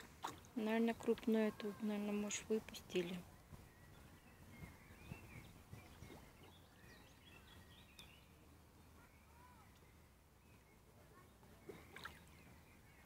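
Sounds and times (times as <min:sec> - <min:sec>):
faint bird chirps: 0:01.4 - 0:13.0.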